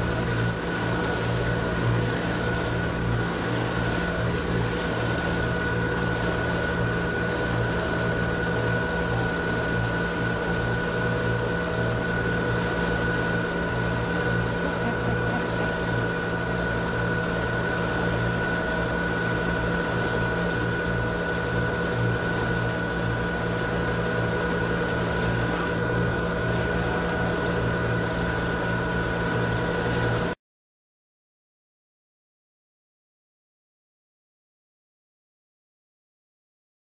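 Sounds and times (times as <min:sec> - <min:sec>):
boat engines humming: 0:00.0 - 0:30.4
wake water rushing: 0:00.0 - 0:30.4.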